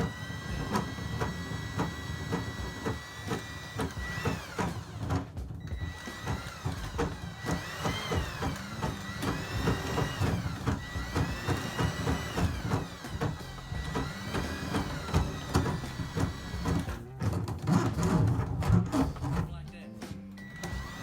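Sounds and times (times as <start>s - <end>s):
drill motor whine: 0.0s - 17.0s, 20.4s - 21.0s
drain cable knocking and clicking: 0.0s - 19.8s.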